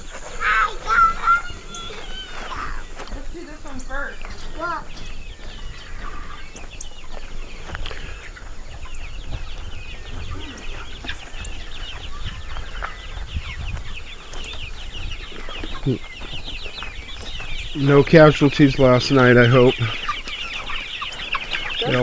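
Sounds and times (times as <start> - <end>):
chickens peeping and chirping: 0.0 - 22.0.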